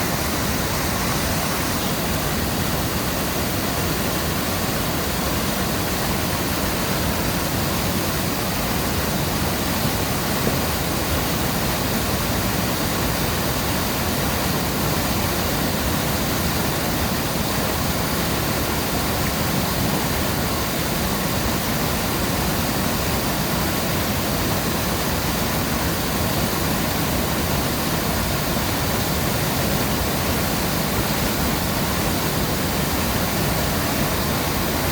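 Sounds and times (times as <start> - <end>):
water rushing over a dam: 0.0 - 34.9.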